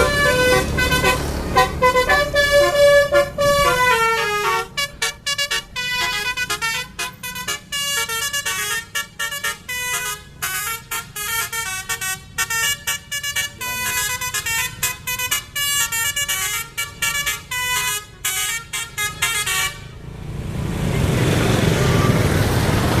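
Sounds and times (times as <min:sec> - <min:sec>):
bus musical horn playing a tune: 0:00.0 - 0:20.0.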